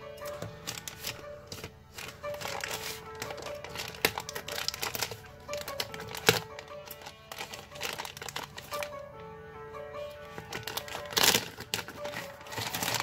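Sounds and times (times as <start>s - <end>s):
background music: 0.0s - 13.0s
plastic mailer crinkling: 0.2s - 9.0s, 10.2s - 13.0s.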